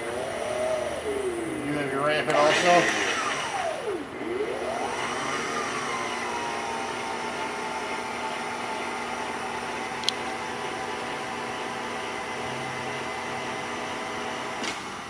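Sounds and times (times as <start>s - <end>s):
power feed whining: 0.0s - 15.0s.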